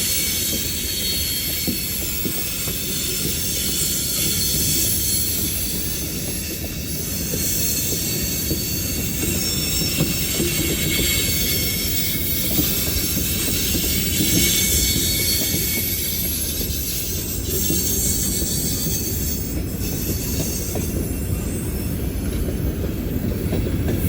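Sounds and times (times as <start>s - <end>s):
railroad cars rumbling: 0.0s - 24.0s
steel wheels squealing on rails: 0.0s - 24.0s.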